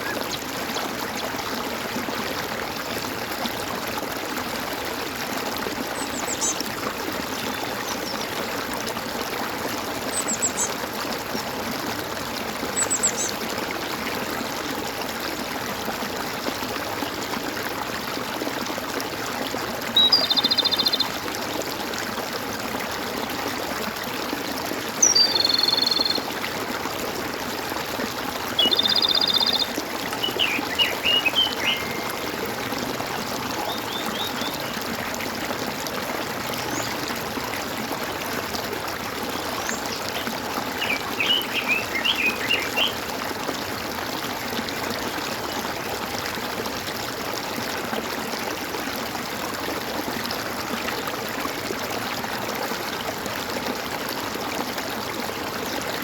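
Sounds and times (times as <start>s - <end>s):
stream water gurgling: 0.0s - 56.0s.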